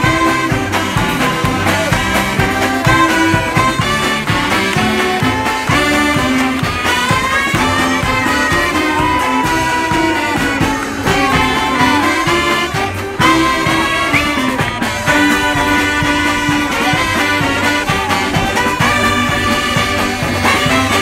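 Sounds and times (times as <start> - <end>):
string band with saxophones: 0.0 - 21.0.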